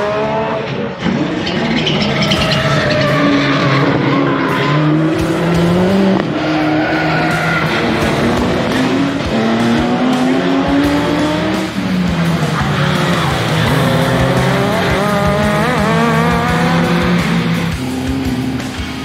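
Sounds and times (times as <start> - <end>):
rally car engines at full throttle: 0.0 - 19.0.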